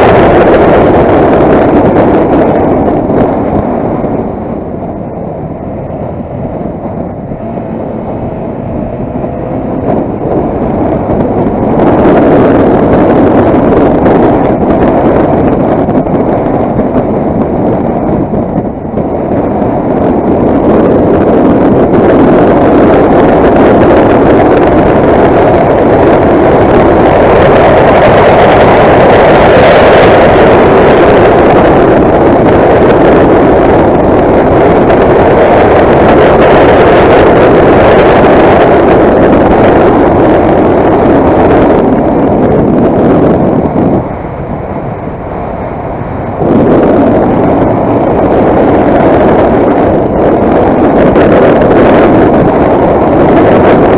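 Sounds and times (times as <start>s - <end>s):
motorcycle engine: 0.0s - 53.9s
wind rushing over microphone: 0.0s - 53.9s.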